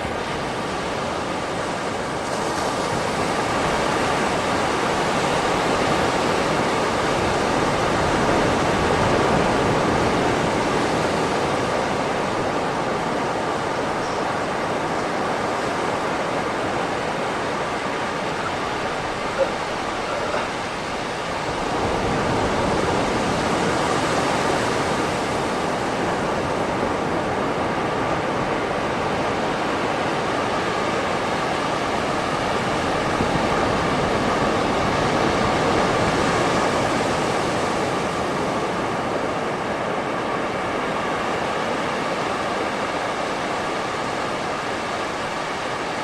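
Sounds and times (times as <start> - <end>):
ocean waves on a beach: 0.0 - 46.0.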